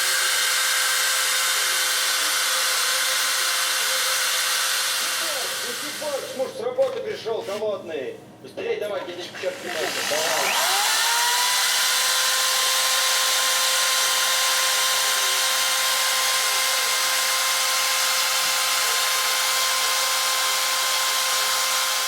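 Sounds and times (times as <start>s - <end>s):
electric drill motor whine: 0.0s - 6.4s, 9.3s - 22.0s.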